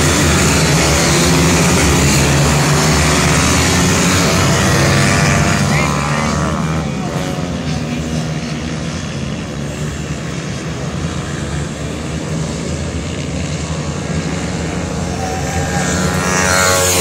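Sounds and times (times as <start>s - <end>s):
motorbike engines droning: 0.0s - 17.0s.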